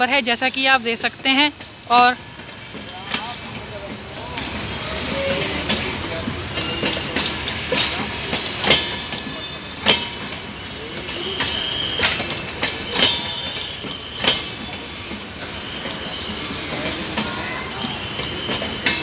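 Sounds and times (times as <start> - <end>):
train rumble: 0.0 - 19.0
train wheels clacking over joints: 0.0 - 19.0
high wheel squeal: 2.6 - 19.0.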